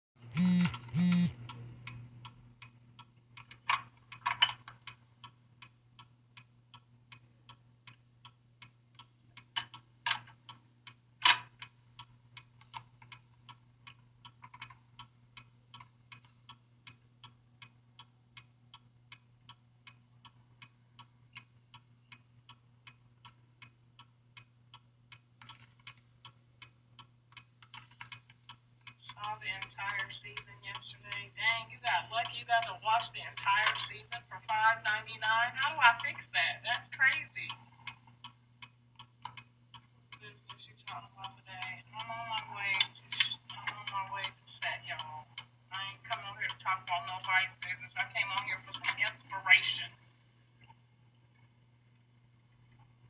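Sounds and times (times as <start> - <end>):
low steady hum: 0.2 - 53.0.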